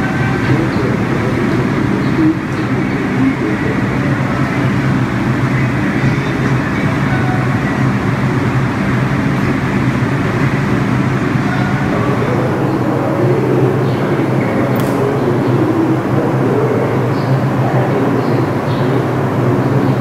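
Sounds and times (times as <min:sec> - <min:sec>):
subway train hum and rumble: 0:00.0 - 0:20.0.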